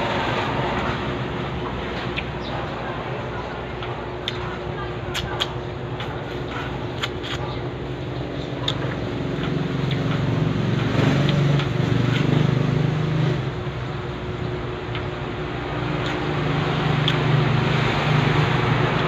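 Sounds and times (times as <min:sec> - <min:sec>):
motor engine humming: 0:00.0 - 0:19.0.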